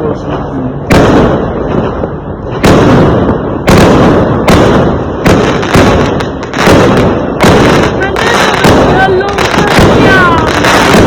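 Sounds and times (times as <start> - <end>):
fireworks sharp bangs: 0.2 - 11.0.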